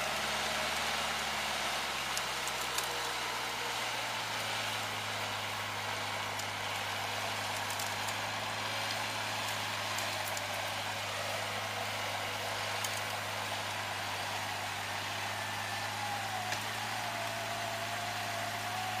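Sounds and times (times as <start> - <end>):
vehicle engine at low revs: 0.0 - 19.0.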